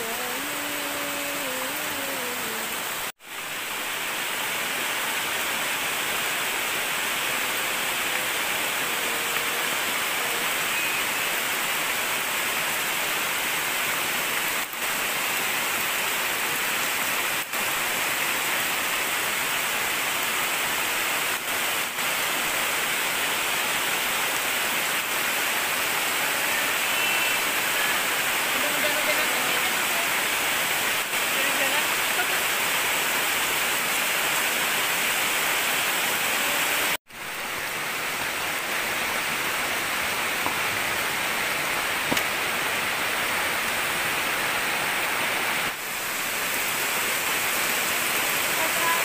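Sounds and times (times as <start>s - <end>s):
heavy rain on foliage: 0.0s - 49.0s.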